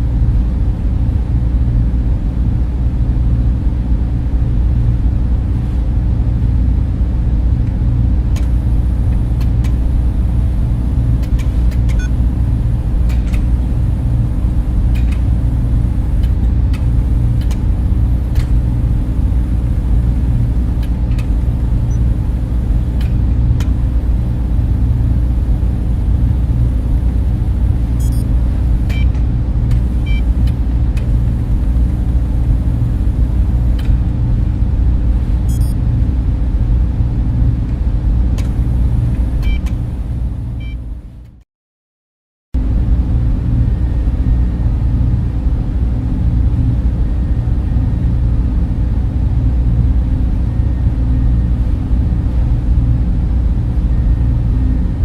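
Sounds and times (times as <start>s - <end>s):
cooling fans droning: 0.0s - 41.4s, 42.6s - 55.0s.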